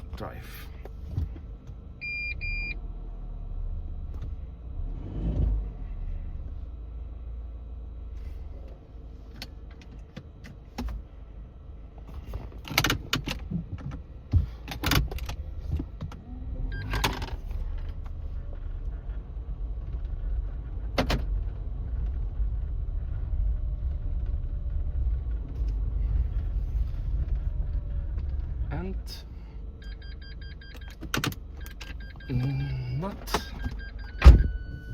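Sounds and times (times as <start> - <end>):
car driving rumble: 0.0 - 34.9.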